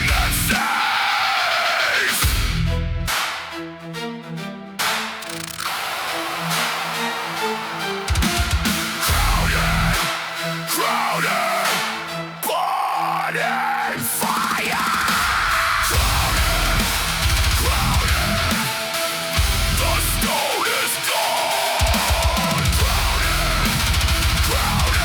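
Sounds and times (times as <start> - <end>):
heavy metal music: 0.0 - 25.0.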